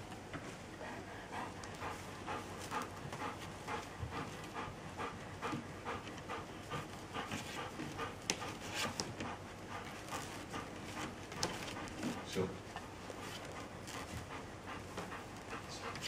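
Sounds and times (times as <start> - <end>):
dog panting: 0.7 - 16.0.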